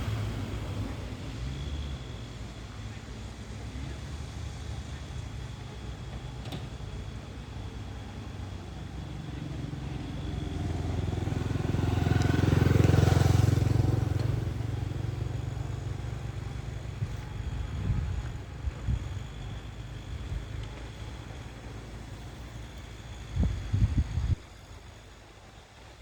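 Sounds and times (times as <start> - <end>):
vehicle passing by: 0.0 - 5.8, 7.4 - 24.6.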